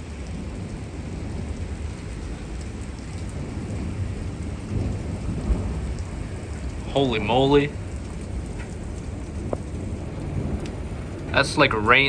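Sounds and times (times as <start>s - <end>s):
heavy rain falling: 0.0s - 12.0s
low rumble of thunder: 0.0s - 12.0s.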